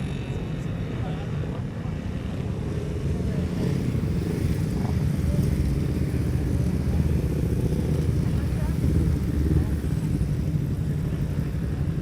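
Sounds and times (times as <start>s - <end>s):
racing motorcycle engines rumbling: 0.0s - 12.0s.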